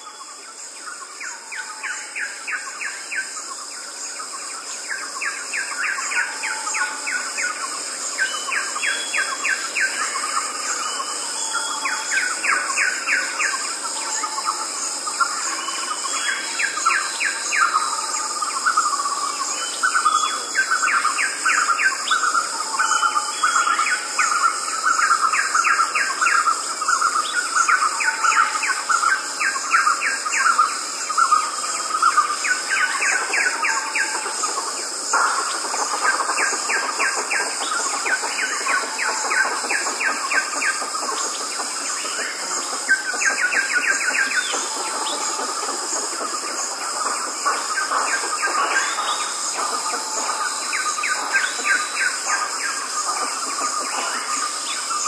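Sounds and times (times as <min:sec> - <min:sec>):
crickets chorus: 0:00.0 - 0:55.0
birds chirping: 0:02.5 - 0:55.0.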